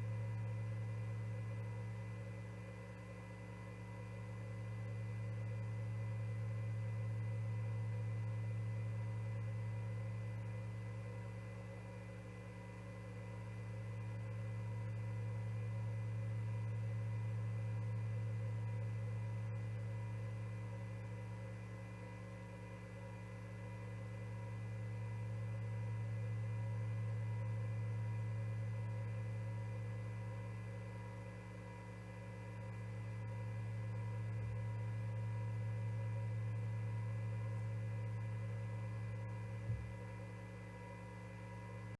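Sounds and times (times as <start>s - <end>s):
electrical hum: 0.0s - 41.9s.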